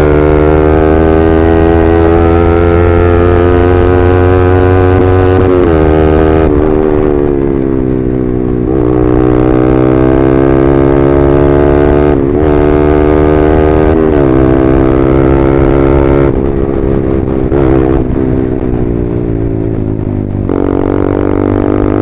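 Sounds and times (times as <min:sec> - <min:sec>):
motorcycle engine buzzing: 0:00.0 - 0:22.0.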